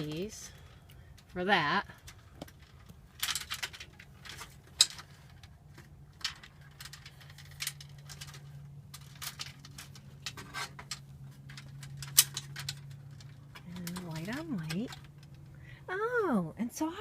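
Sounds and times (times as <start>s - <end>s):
hands handling wires clicking: 0.0s - 15.5s
steady low hum: 0.0s - 17.0s.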